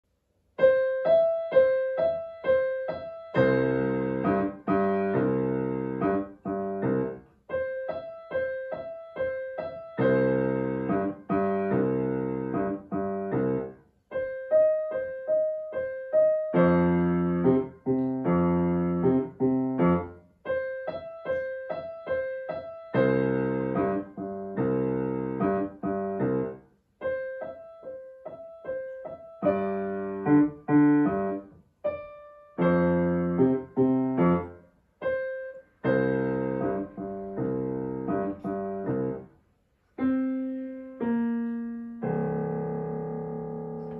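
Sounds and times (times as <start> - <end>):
solo blues piano: 0.6 - 43.9.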